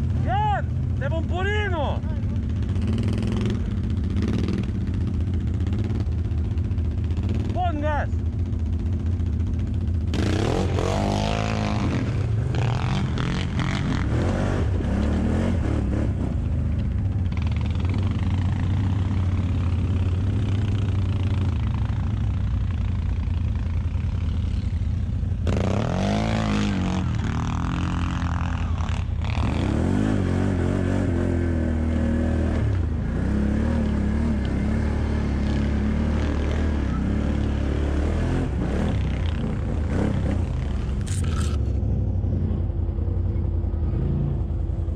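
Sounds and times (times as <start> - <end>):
atv engine revving under load: 2.1 - 7.6, 8.2 - 41.9.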